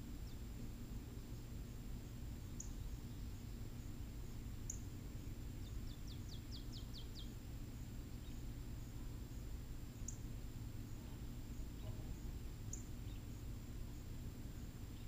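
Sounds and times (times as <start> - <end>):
low outdoor rumble: 0.0 - 15.0
small bird chirping: 1.6 - 7.4, 8.1 - 15.0.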